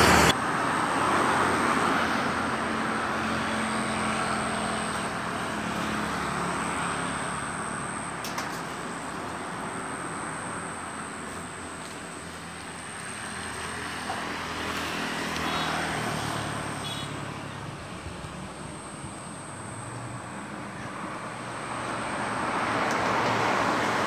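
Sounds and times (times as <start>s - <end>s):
vehicle engine running: 2.6s - 22.8s.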